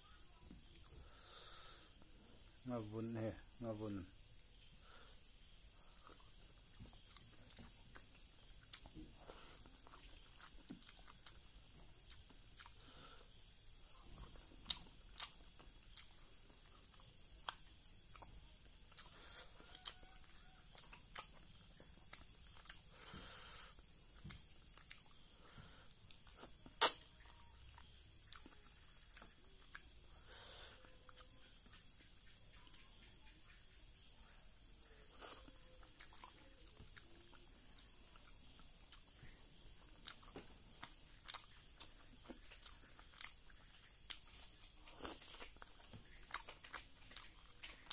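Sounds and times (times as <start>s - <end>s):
man chewing food: 0.0s - 2.6s, 4.4s - 33.5s, 34.8s - 47.9s.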